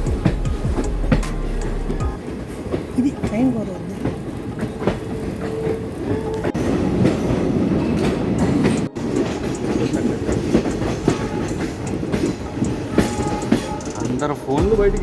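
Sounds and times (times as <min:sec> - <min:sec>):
train rumbling on rails: 0:00.0 - 0:15.0
wheels clacking over rail joints: 0:01.1 - 0:14.6.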